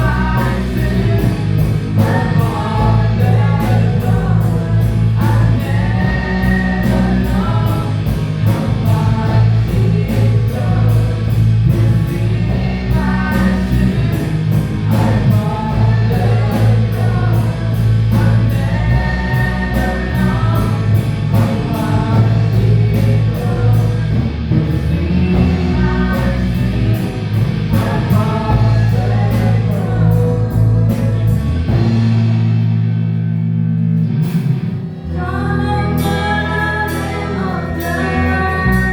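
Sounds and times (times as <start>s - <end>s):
people singing: 0.0s - 32.1s, 34.9s - 38.9s
worship band playing: 0.0s - 38.9s.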